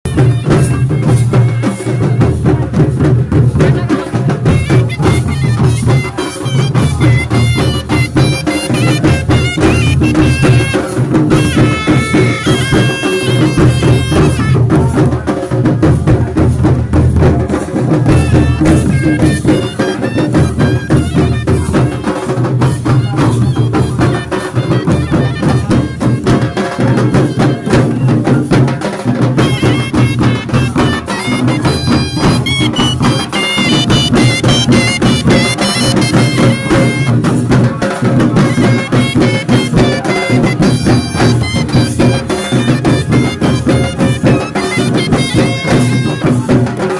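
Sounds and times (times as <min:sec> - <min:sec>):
folk music with drumming: 0:00.0 - 0:46.9
reedy wind instrument melody: 0:00.1 - 0:46.9.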